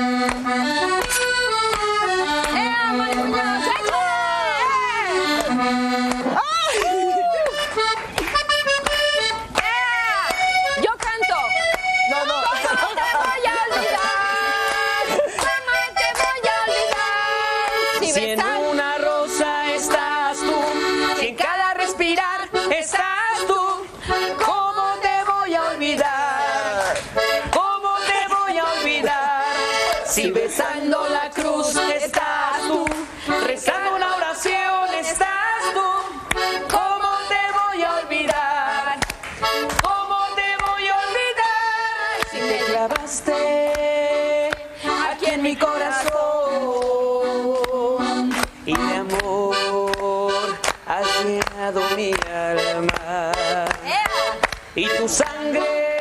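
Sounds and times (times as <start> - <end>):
cumbia music with accordion: 0.0 - 56.0.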